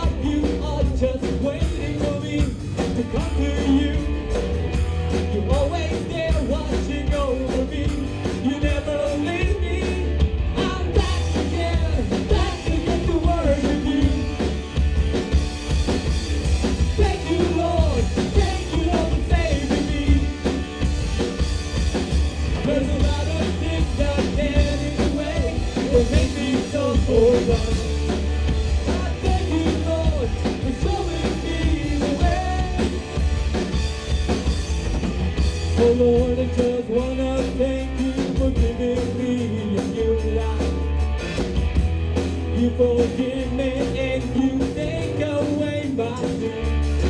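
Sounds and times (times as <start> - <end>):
rock band playing: 0.0 - 47.0.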